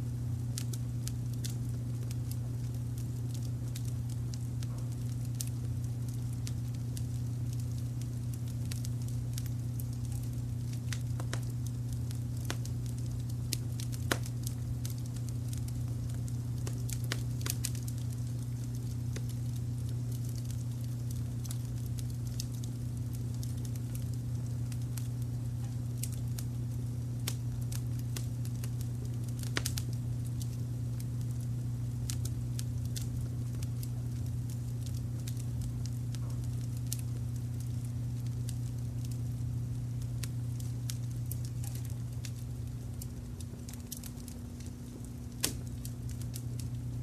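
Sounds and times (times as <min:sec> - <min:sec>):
low rumble of brown noise: 0:00.0 - 0:47.0
wood fire crackling: 0:00.0 - 0:47.0.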